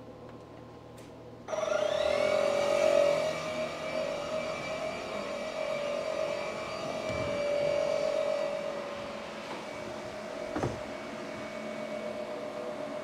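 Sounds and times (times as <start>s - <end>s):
air compressor motor running: 1.5s - 13.0s.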